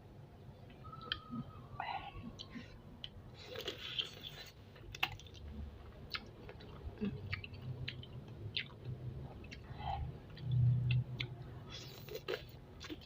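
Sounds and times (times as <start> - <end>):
close chewing with wet mouth sounds: 2.2 - 13.0.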